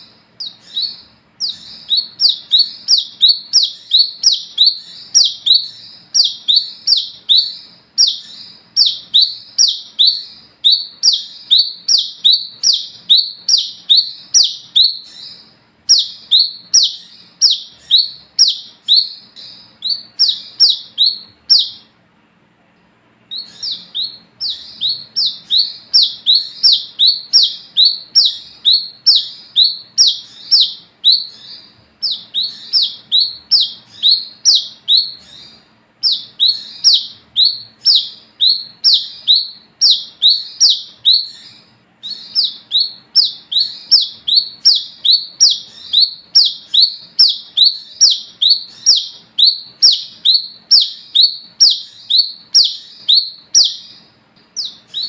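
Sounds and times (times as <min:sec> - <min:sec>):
bird calling high notes: 0:00.0 - 0:21.9, 0:23.3 - 0:54.0.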